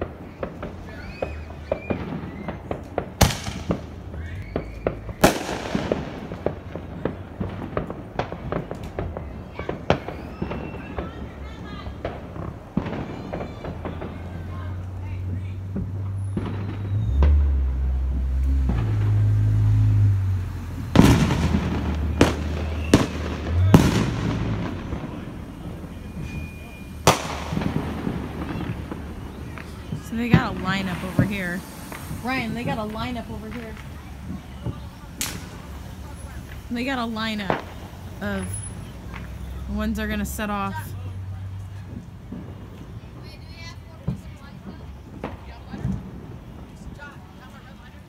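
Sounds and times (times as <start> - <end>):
small firework pops: 0.0 - 19.3, 20.9 - 39.7, 41.4 - 48.0
loud firework bangs: 0.0 - 48.0.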